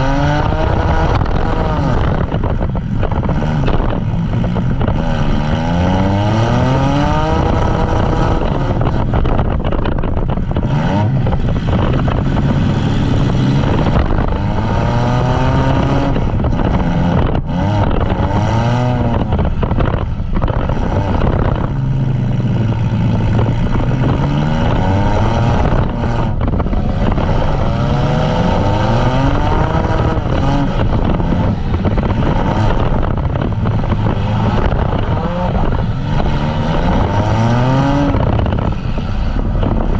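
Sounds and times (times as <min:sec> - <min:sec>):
van engines revving: 0:00.0 - 0:39.9.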